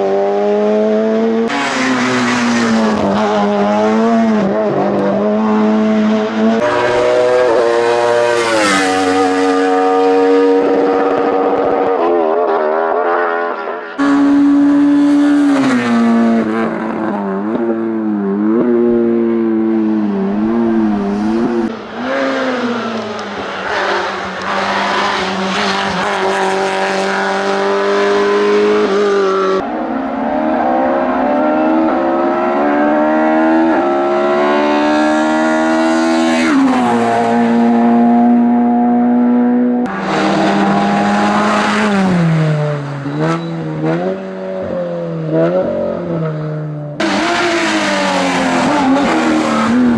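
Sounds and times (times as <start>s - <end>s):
racing car engines at full throttle: 0.0s - 49.9s.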